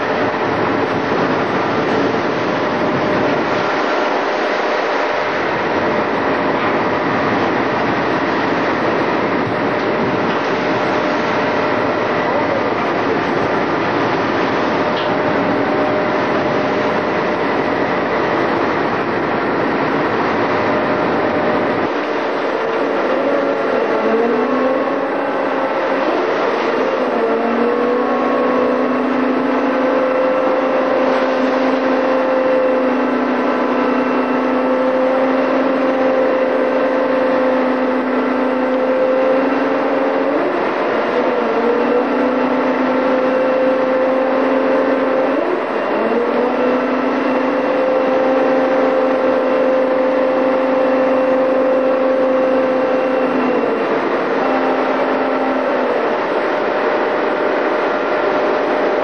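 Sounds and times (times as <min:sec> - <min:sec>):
diesel engine running: 0:00.0 - 0:59.0
rough sea wash: 0:00.0 - 0:59.0
wind rumble on microphone: 0:00.0 - 0:59.0.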